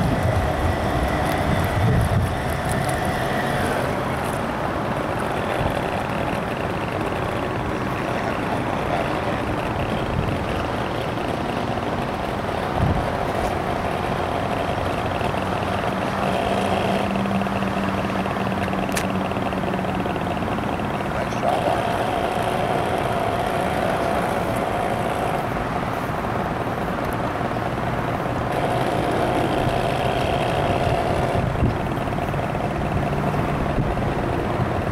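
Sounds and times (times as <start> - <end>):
model boat motor humming: 0.0 - 34.9
rushing background noise: 0.0 - 34.9.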